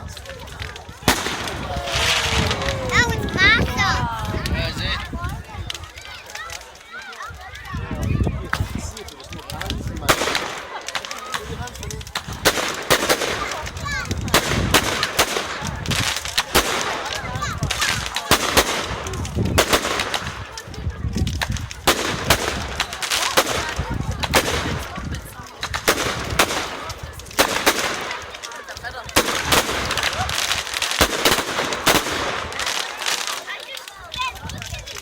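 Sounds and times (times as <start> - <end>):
firework bangs: 0.0 - 35.0
firework crackle: 0.0 - 35.0.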